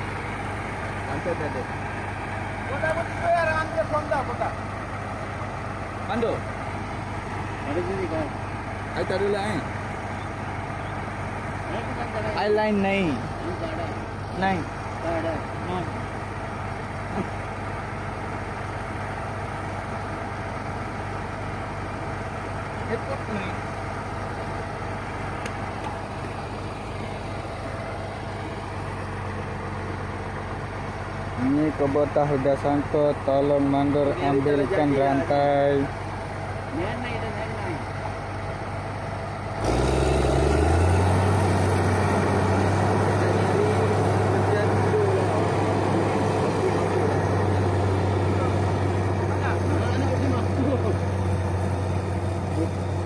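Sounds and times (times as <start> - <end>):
heavy machine engine humming: 0.0 - 53.0.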